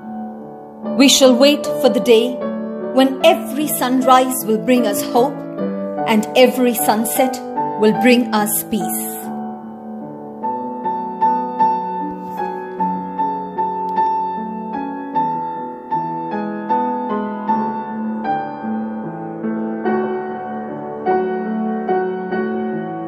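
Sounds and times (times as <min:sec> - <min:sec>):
slow keyboard melody: 0:00.0 - 0:23.0.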